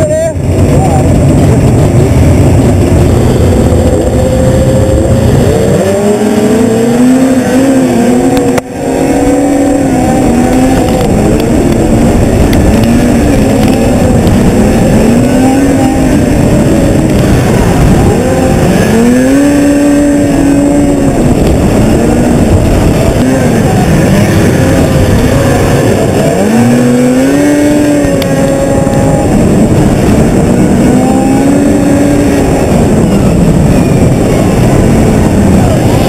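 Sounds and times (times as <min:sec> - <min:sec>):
snowmobile engines racing: 0:00.0 - 0:36.0.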